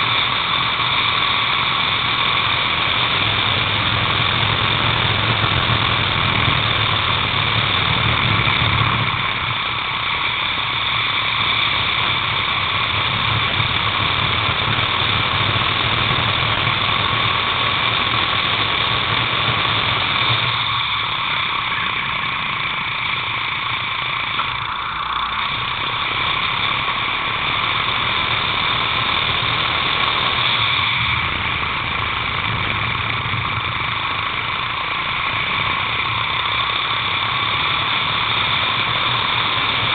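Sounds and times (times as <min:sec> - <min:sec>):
racing kart engine whining: 0:00.0 - 0:39.9.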